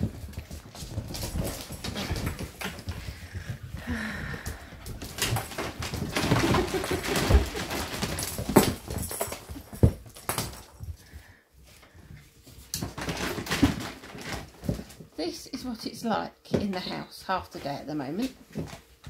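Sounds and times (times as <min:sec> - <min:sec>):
puppies scuffling on wooden floor: 0:00.0 - 0:15.9, 0:16.5 - 0:19.0.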